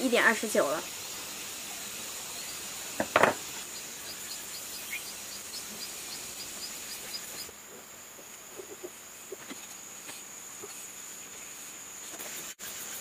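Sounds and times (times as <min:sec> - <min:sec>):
faint insect chirping: 0:00.0 - 0:13.0
steady high hiss: 0:00.0 - 0:13.0.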